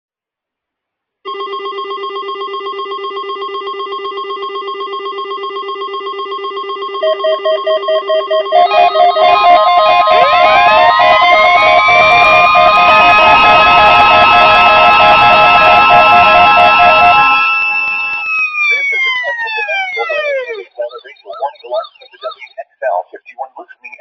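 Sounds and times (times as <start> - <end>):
higher pulsing beep: 1.3 - 24.0
rapidly pulsing beep: 1.3 - 24.0
siren-like rising tone: 2.8 - 22.4.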